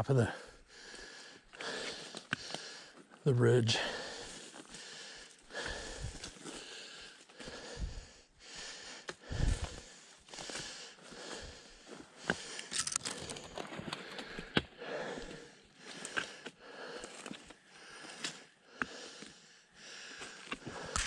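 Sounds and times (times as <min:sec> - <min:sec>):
person breathing: 0:00.3 - 0:03.1, 0:03.8 - 0:21.0.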